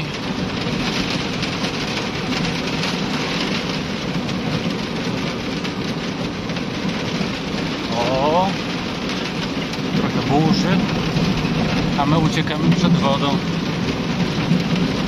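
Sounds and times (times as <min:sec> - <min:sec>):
heavy rain on vehicle roof: 0:00.0 - 0:15.0.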